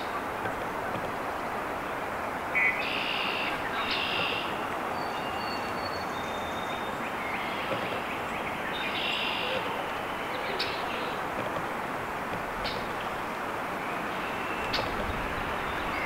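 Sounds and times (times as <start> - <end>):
birds calling harsh notes: 0.0 - 16.0
steady rushing background noise: 0.0 - 16.0.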